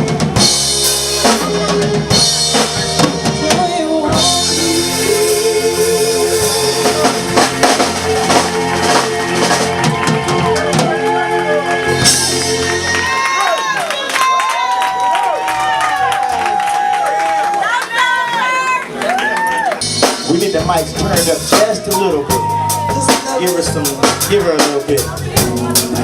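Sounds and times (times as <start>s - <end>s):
live band music: 0.0s - 14.8s, 18.0s - 26.0s.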